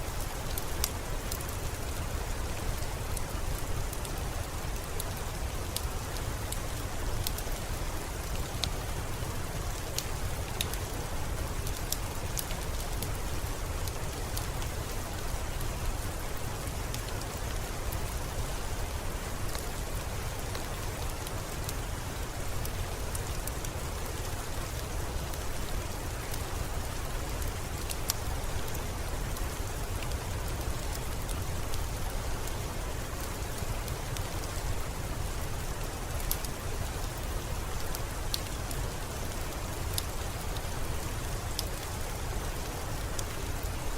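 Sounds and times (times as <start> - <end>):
steady rain: 0.0 - 43.9
wood fire crackling: 0.0 - 43.9.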